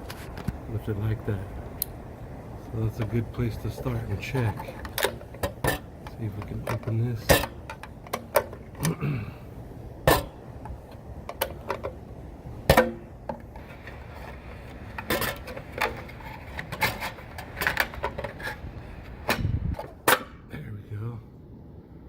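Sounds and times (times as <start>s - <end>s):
vent flapper scraping: 0.0s - 1.6s, 2.2s - 20.0s.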